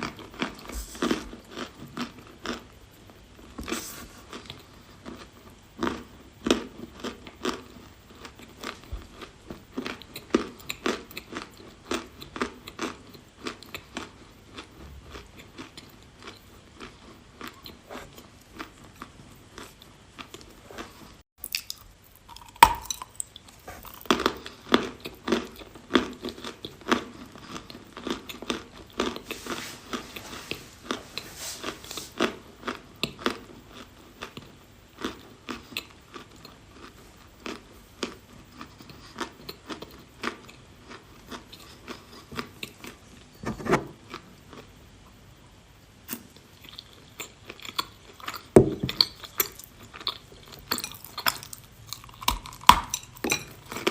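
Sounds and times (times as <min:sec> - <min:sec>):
crackly crunches of chewing: 0:00.0 - 0:45.1, 0:46.0 - 0:53.9.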